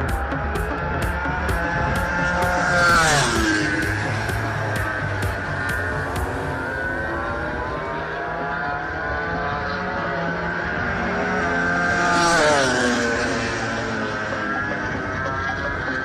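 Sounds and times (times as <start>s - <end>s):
motorbike passing by: 0.0s - 16.0s
racing motorbike engines revving: 0.0s - 16.0s.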